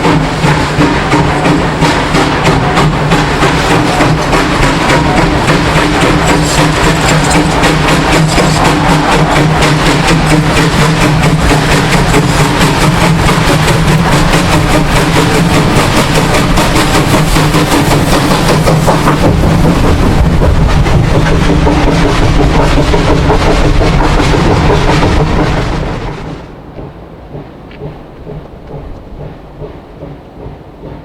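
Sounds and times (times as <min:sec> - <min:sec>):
steam locomotive exhaust beats: 0:00.0 - 0:31.0.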